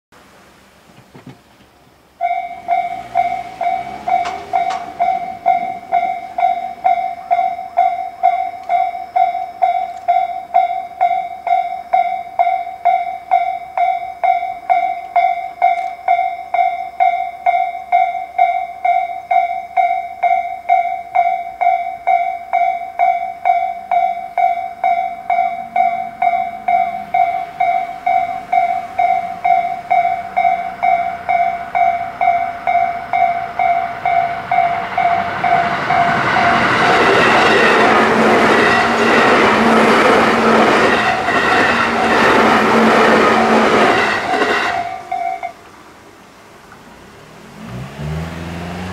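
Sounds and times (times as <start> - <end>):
train wheels clattering on rails: 1.0 - 45.8
level crossing warning bell: 2.2 - 45.7.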